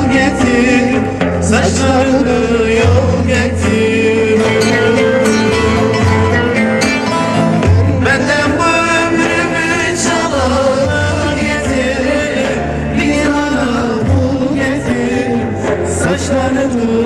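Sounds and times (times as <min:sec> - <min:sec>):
electronic keyboard with bass: 0:00.0 - 0:17.0
man singing into a microphone: 0:00.0 - 0:17.0.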